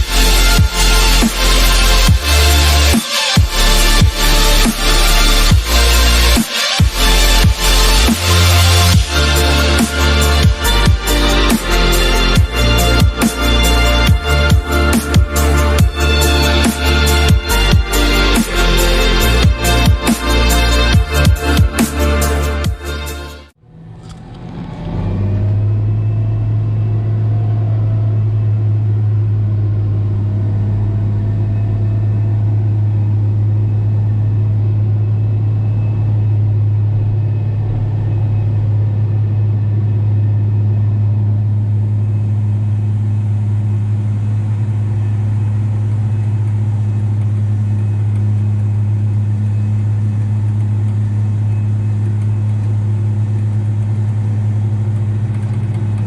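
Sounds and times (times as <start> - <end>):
tractor diesel engine drone: 0.0 - 56.0.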